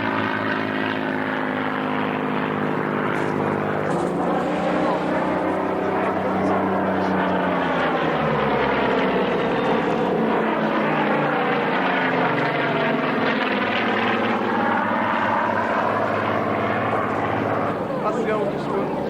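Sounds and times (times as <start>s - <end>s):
propeller aircraft droning: 0.0s - 19.0s.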